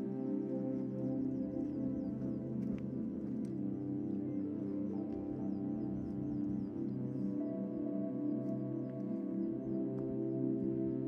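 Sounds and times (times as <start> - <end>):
ambient music of slow chords: 0.0 - 11.0.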